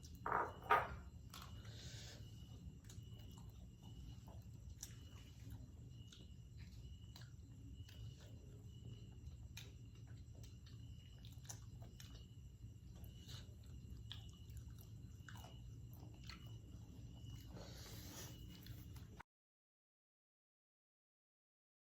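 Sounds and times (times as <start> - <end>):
person chewing food: 1.1 - 19.2.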